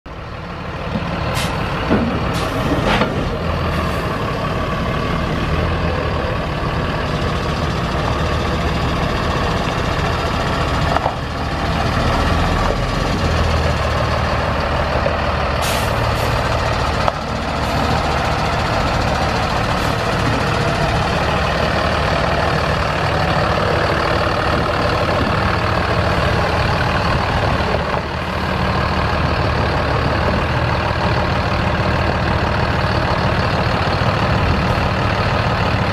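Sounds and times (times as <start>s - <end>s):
truck diesel engine running: 0.1s - 35.9s.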